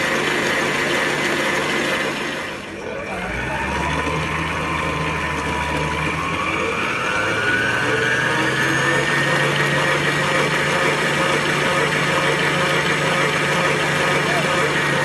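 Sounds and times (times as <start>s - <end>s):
stand mixer whipping batter: 0.0s - 15.0s.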